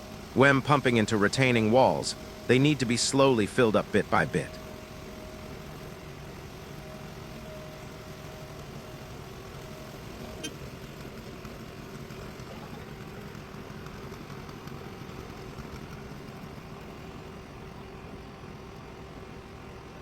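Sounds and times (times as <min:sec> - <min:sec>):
concrete pump running: 0:00.0 - 0:20.0.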